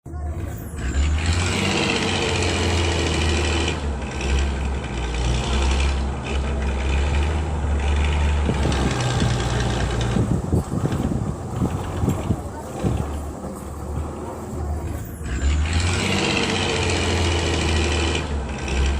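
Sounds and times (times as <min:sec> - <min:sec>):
vehicle engine humming: 0:00.0 - 0:18.9.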